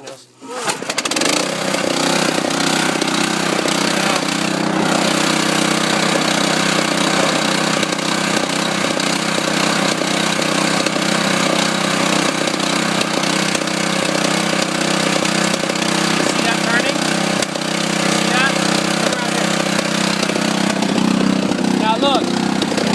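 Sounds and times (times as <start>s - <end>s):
small gasoline engine running: 0.4s - 22.9s.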